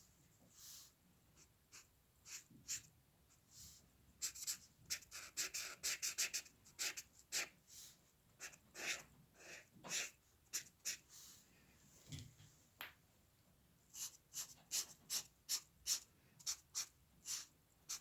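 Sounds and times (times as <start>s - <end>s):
scratchy drawing strokes on paper: 0.5s - 11.4s, 14.0s - 18.0s.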